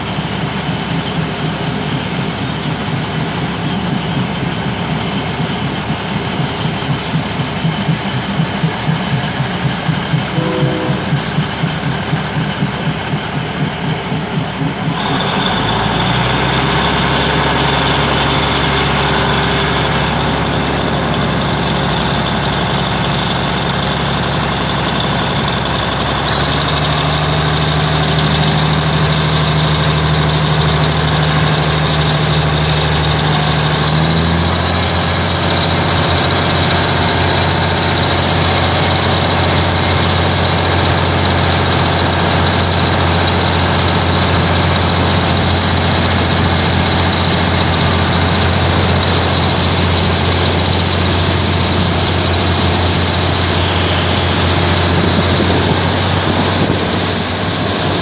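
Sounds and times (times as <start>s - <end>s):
diesel train engine: 0.0s - 58.0s
train wheels clattering on rails: 0.0s - 58.0s.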